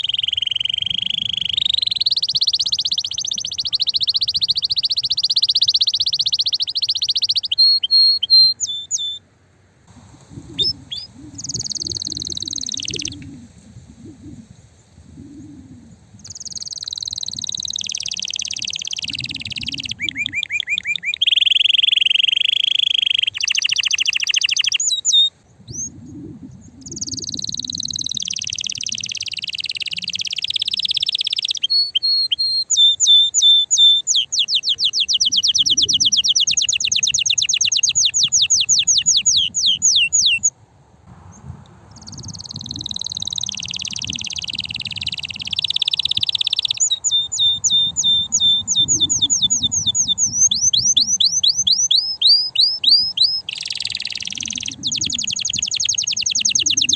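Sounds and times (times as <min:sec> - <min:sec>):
canary singing trills: 0:00.0 - 0:09.2, 0:09.9 - 0:14.6, 0:15.2 - 0:40.5, 0:41.3 - 0:56.9.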